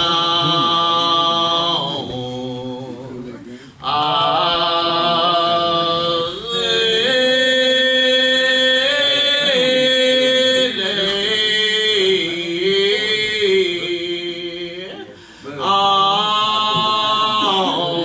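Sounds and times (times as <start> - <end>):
person singing a gospel hymn: 0.0 - 18.0.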